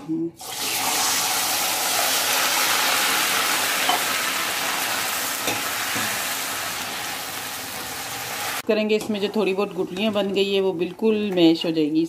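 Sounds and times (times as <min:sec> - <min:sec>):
sizzling in a pan: 0:00.4 - 0:10.6.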